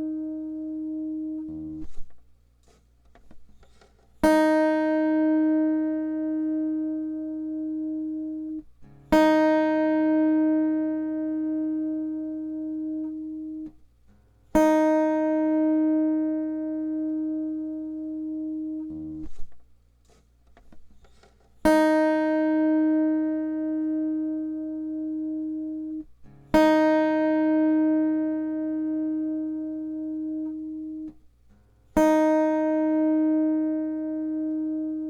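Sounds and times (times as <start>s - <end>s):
acoustic guitar string plucked: 0.0s - 3.6s, 4.2s - 13.8s, 14.6s - 31.2s, 32.0s - 35.0s.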